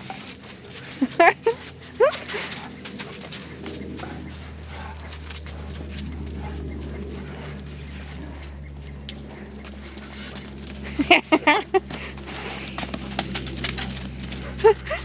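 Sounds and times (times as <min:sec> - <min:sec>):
dogs whining: 0:00.0 - 0:15.0
steady low hum: 0:00.0 - 0:15.0.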